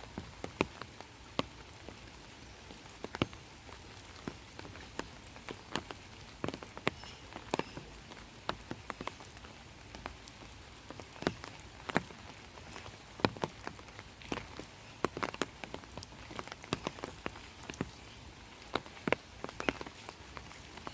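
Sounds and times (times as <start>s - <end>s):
rain hissing: 0.0s - 20.9s
raindrops tapping close by: 0.0s - 20.9s.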